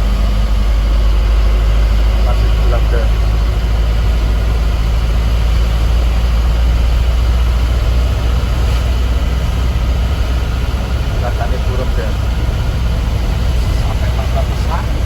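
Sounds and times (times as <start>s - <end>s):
diesel truck engine rumbling: 0.0s - 15.0s
road noise: 0.0s - 15.0s.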